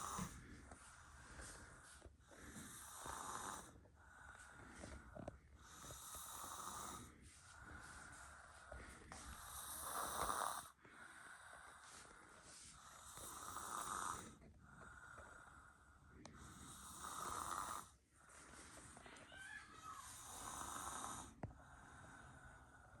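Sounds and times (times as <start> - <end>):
soft snoring: 0.0 - 23.0.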